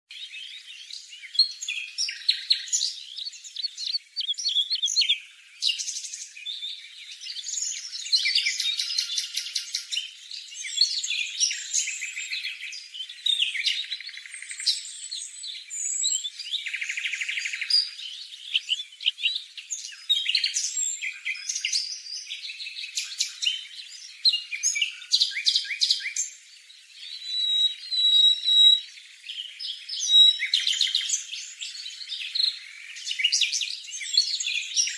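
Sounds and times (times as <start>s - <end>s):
bird singing chirps and trills: 0.1s - 34.9s.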